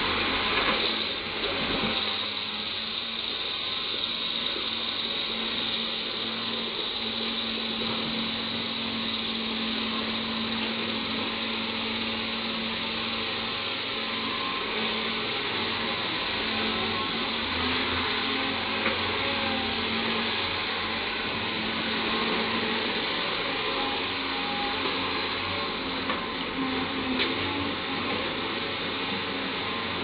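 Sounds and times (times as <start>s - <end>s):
excavator engine and hydraulics: 0.0s - 30.0s.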